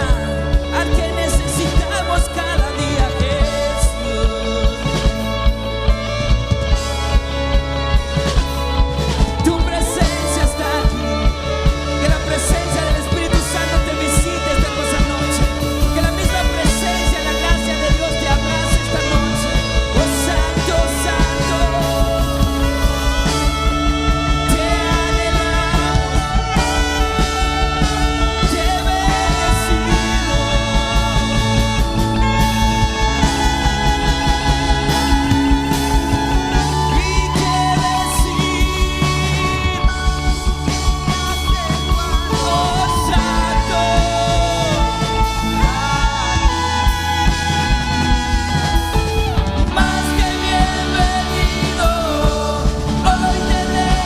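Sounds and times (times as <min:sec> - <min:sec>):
person singing: 0:00.0 - 0:54.0
worship band music: 0:00.0 - 0:54.0.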